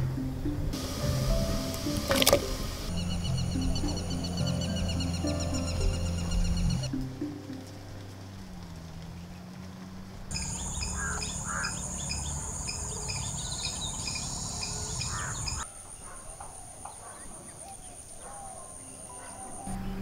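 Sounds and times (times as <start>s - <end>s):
birds chirping: 0.0s - 20.0s
insects trilling: 0.8s - 7.0s, 9.6s - 19.7s.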